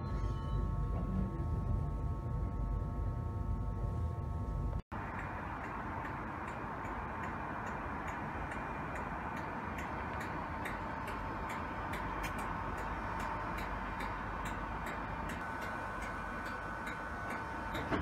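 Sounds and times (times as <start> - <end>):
electrical hum with faint whine: 0.0 - 18.0
moving train rumble: 0.0 - 18.0.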